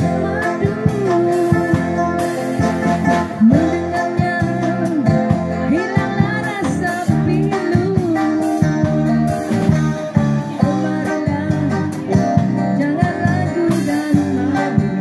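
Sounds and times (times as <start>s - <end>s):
woman singing: 0.0s - 2.2s, 3.2s - 15.0s
plucked guitar chords: 0.0s - 15.0s.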